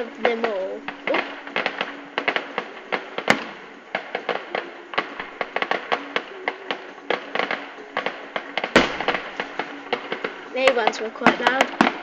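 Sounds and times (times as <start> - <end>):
firework cracks and pops: 0.0 - 12.0
loud firework bang: 0.3 - 12.0.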